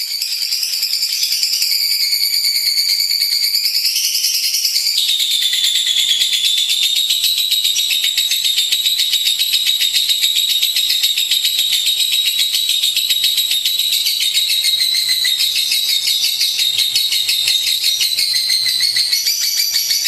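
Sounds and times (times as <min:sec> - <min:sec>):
bird chattering trill: 0:00.0 - 0:20.0.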